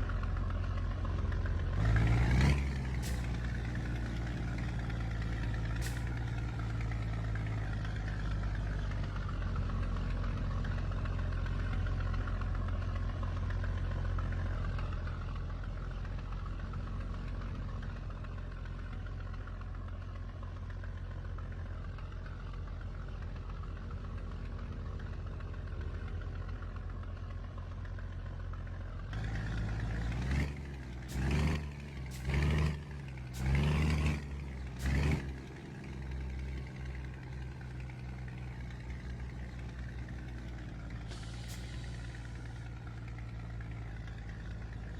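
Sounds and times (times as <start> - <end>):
diesel truck engine droning: 0.0 - 44.9.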